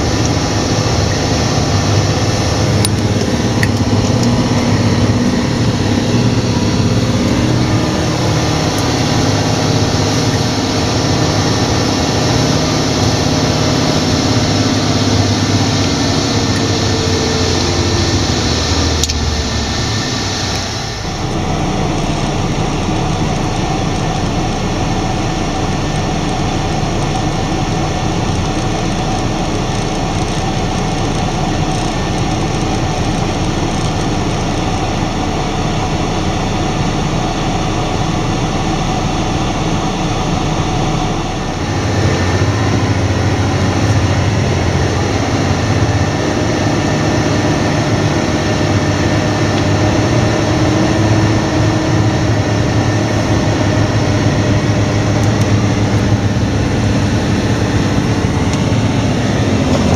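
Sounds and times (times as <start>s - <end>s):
combine harvester running: 0.0s - 59.9s
low engine hum inside vehicle cab: 0.0s - 59.9s.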